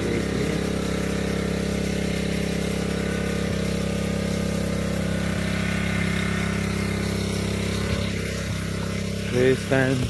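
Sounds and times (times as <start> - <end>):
small engine running steadily: 0.0 - 10.0.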